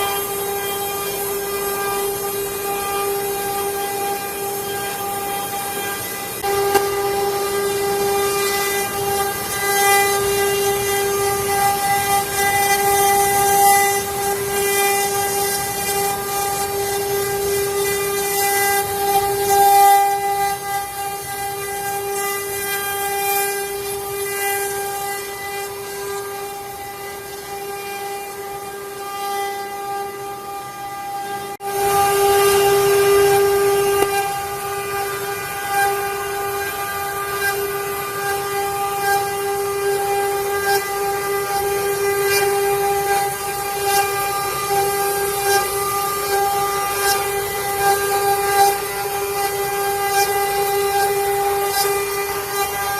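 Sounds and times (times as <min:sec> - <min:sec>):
cutting bit hissing: 0:00.0 - 0:52.9
router spindle whining: 0:00.0 - 0:52.9.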